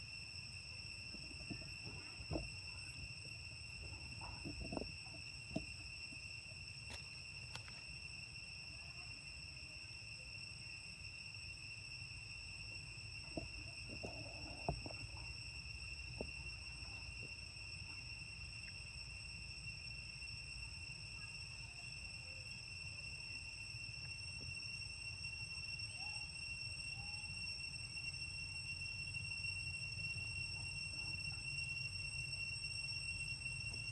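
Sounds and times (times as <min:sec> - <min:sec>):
high-pitched insect drone: 0:00.0 - 0:33.9.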